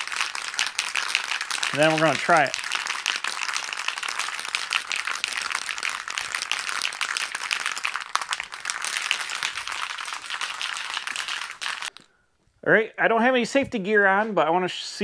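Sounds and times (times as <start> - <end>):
spray cans rattling when shaken: 0.0 - 12.0.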